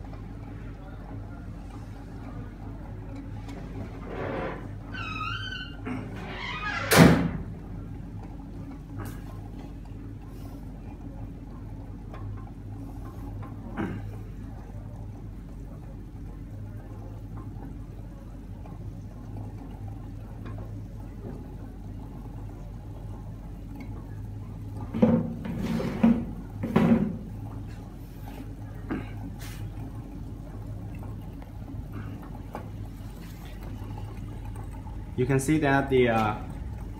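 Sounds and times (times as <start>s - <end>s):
liquid simmering: 0.0s - 6.7s, 7.4s - 36.9s
hot plate humming: 0.0s - 36.9s.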